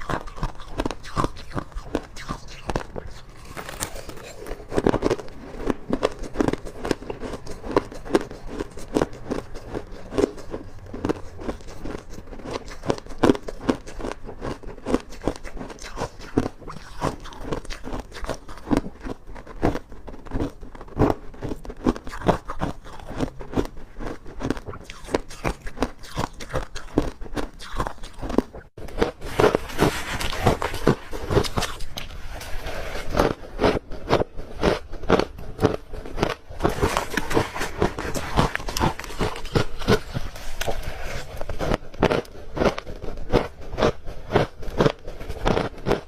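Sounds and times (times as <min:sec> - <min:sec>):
ice crunching while chewed: 0:00.0 - 0:46.0.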